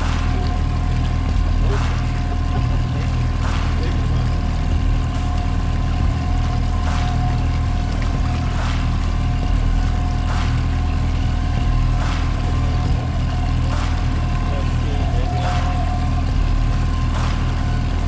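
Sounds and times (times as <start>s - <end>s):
boat motor running: 0.0s - 18.0s
faint steady whine: 0.0s - 18.0s.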